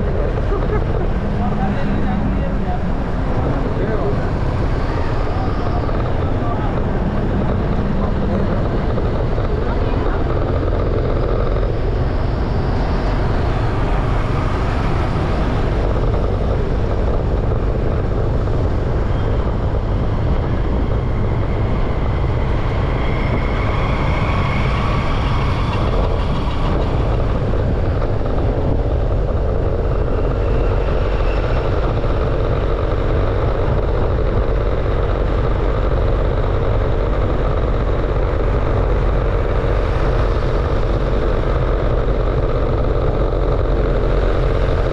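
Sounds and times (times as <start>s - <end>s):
faint passing vehicles: 0.0s - 44.9s
road noise and wind rumble: 0.0s - 44.9s.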